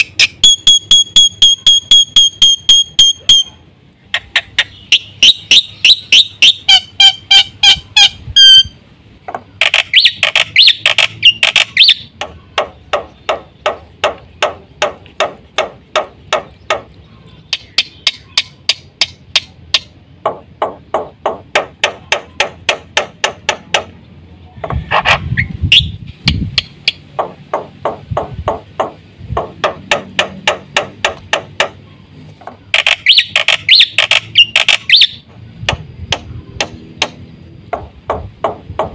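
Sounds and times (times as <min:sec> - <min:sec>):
bird calling sharp repeated notes: 0:00.0 - 0:24.0, 0:24.6 - 0:37.2
bird harsh chattering song: 0:00.0 - 0:36.9.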